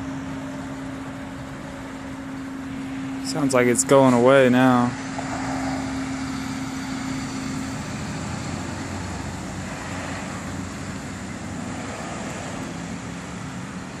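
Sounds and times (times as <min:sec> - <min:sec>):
distant droning rumble: 0:00.0 - 0:14.0.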